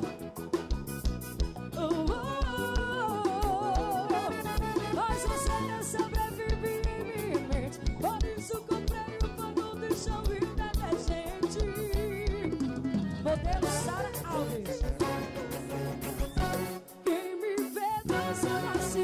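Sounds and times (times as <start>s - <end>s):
bass: 0.0s - 16.9s, 17.9s - 19.0s
accordion melody: 0.0s - 19.0s
electric guitar: 0.0s - 19.0s
steady drum beat: 0.0s - 19.0s.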